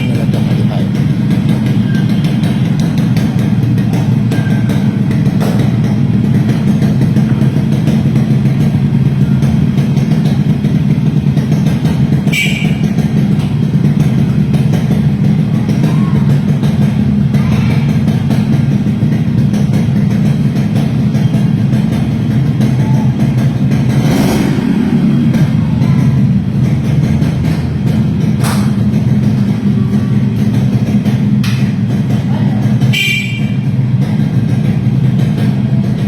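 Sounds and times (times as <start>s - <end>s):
two-stroke engine running: 0.0s - 36.0s.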